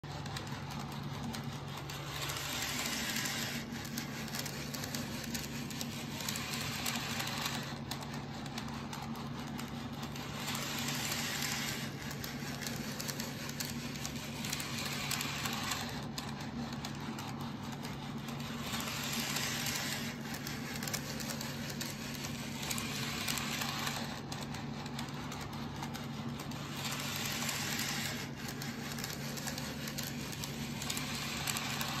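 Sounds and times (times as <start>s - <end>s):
model train motor hum: 0.0s - 32.0s.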